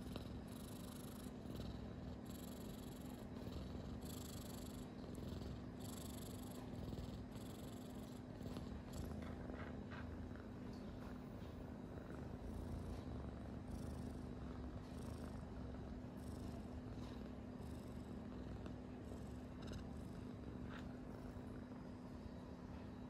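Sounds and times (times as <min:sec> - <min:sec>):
kitten purring: 0:00.0 - 0:23.0.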